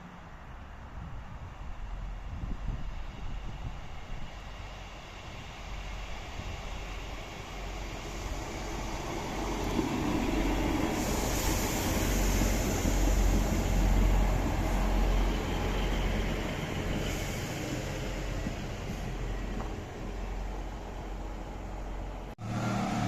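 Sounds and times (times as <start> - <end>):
train rumbling past: 0.0 - 23.0
train wheels on rails: 1.5 - 23.0.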